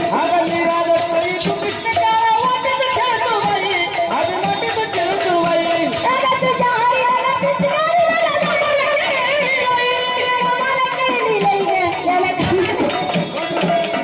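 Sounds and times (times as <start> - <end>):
hand drum: 0.0 - 14.0
jingling percussion: 0.0 - 14.0
woman singing: 0.0 - 14.0.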